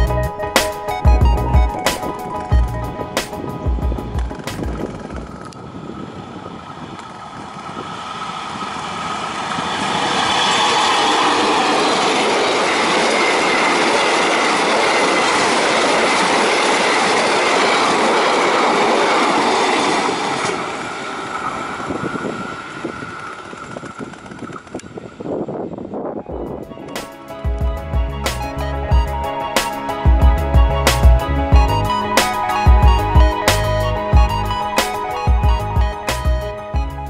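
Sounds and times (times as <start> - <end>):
passenger train passing: 0.0 - 37.0.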